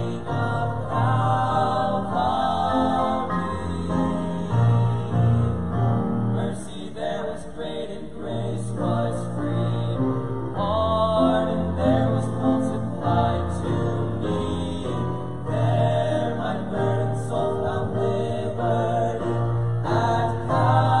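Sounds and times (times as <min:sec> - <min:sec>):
male vocal quartet singing gospel: 0:00.0 - 0:21.0.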